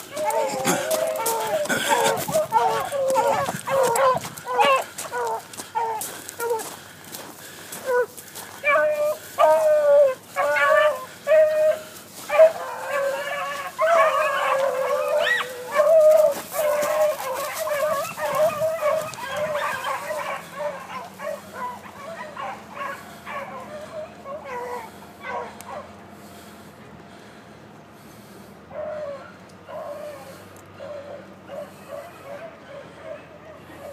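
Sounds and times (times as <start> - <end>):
dogs baying and barking: 0.0 - 33.9.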